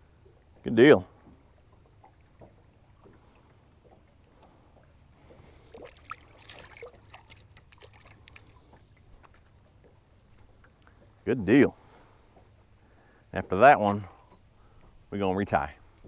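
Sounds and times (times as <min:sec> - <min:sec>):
lake water splashing: 0:00.0 - 0:15.0.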